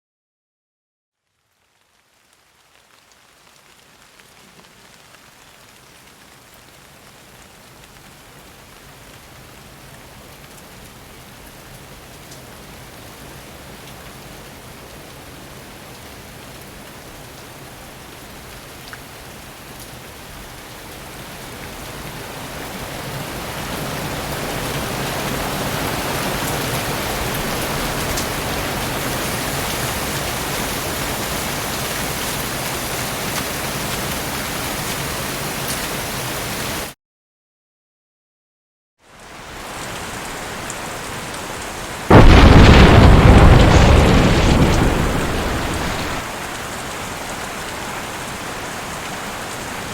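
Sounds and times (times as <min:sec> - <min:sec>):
heavy rain falling: 0:01.6 - 0:37.0, 0:39.1 - 0:49.9.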